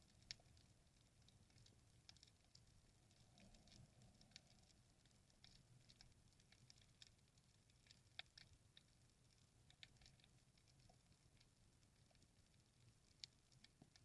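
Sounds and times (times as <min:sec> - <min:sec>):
faint low rumble: 0:00.0 - 0:14.0
faint underwater clicks: 0:00.0 - 0:14.0.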